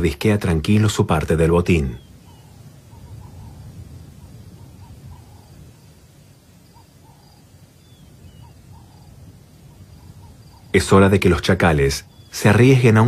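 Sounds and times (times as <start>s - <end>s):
faint high insect trill: 0.6s - 13.0s
chirping animal calls: 1.6s - 13.0s.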